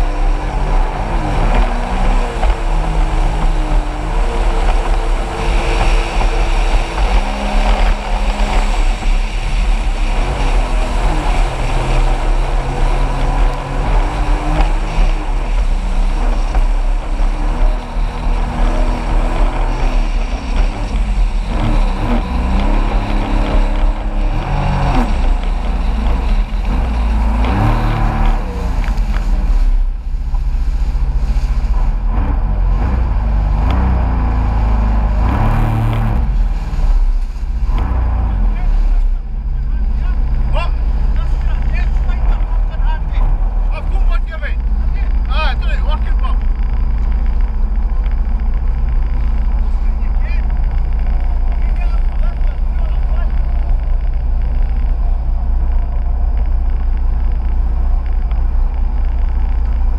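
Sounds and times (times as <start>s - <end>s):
jet ski engine revving: 0.0s - 59.9s
wind and water rushing: 0.0s - 59.9s.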